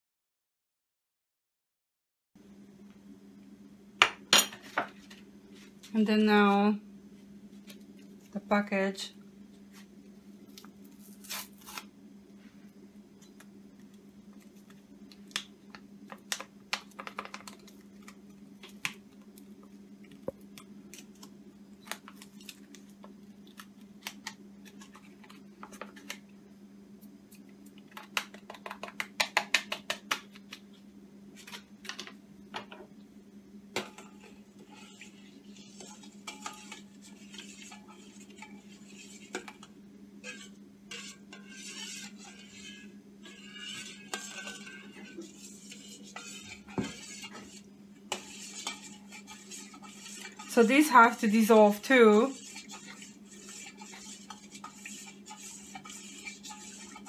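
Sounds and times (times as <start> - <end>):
steady low hum: 2.4 - 57.0.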